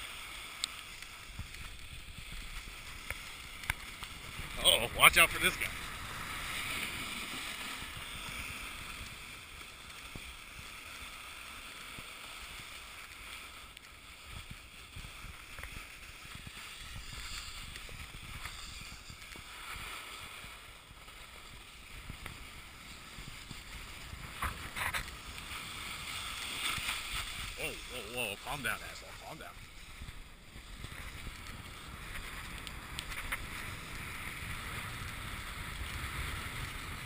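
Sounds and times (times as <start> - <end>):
skis scraping on snow: 0.0 - 37.0
wind on microphone: 1.2 - 9.3, 14.4 - 37.0.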